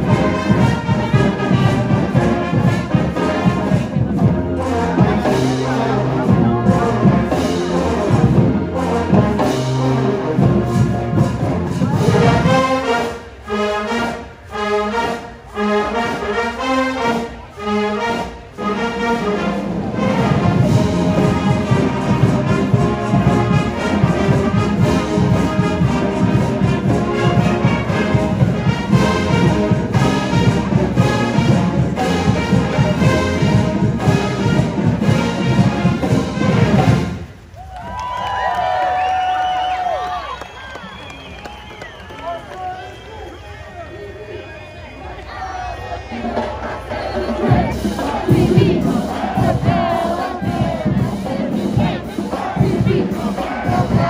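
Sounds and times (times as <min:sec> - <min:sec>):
marching band playing: 0:00.0 - 0:38.1, 0:45.6 - 0:54.0.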